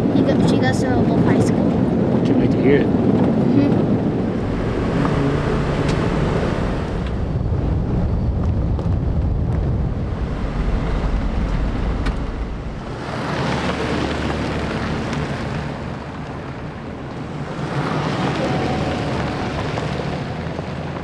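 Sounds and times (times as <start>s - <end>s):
engine and tyres rumbling: 0.0s - 21.0s
wind buffeting microphone: 0.0s - 21.0s.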